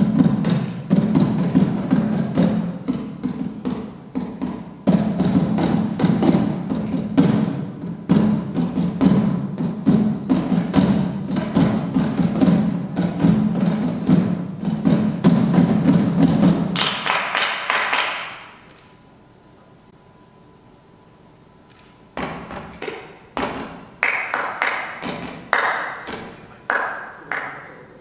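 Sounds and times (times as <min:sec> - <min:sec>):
percussive beat of thuds: 0:00.0 - 0:18.5, 0:22.2 - 0:26.8.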